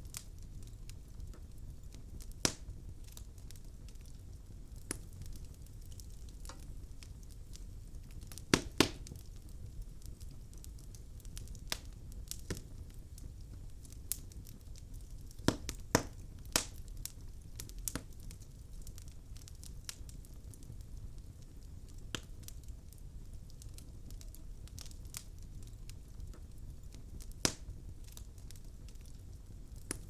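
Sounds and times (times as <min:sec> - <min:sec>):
fire popping: 0:00.0 - 0:30.0
logs crackling in fireplace: 0:00.0 - 0:30.0
low steady fire rumble: 0:00.0 - 0:30.0.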